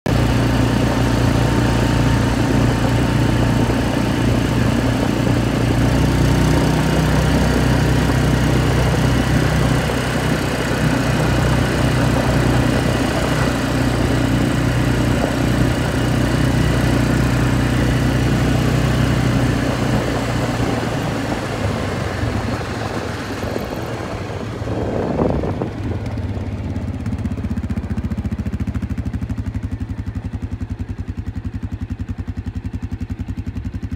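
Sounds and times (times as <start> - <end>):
atv engine running on gravel: 0.1 - 33.9.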